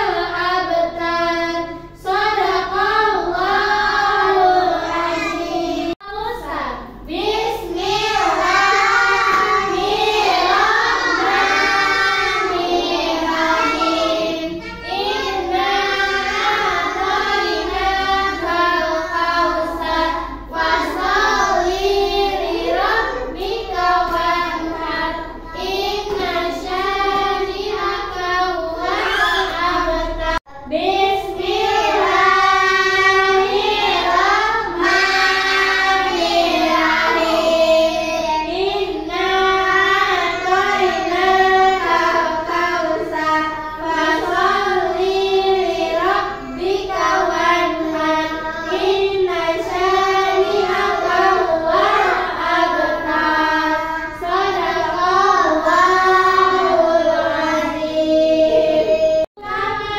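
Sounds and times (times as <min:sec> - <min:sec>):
children singing together: 0:00.0 - 0:06.0, 0:06.8 - 0:59.9.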